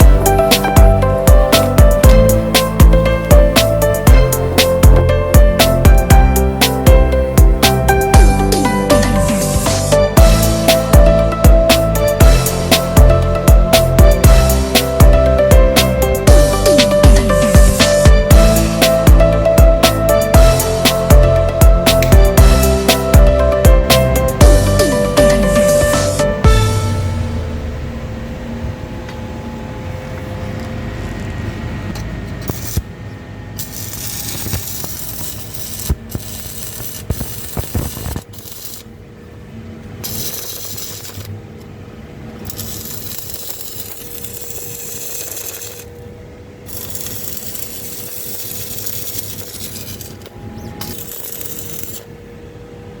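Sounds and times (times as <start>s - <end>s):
welding arc crackling and hissing: 0.0s - 26.7s, 32.4s - 32.9s, 33.6s - 39.0s, 40.0s - 41.3s, 42.4s - 46.0s, 46.6s - 52.1s.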